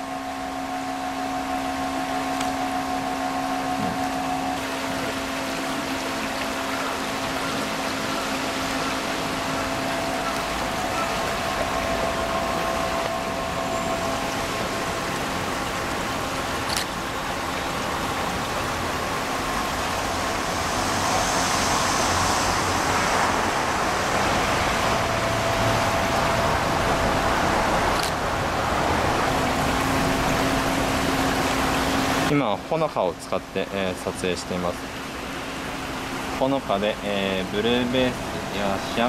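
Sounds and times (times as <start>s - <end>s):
faint constant hum: 0.0s - 39.0s
shallow stream rushing: 0.0s - 39.0s.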